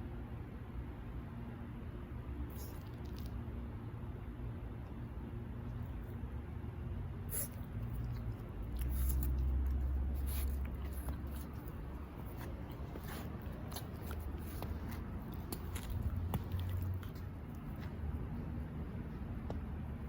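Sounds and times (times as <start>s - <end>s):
puppy chewing and playing: 2.2s - 3.8s, 4.7s - 20.0s.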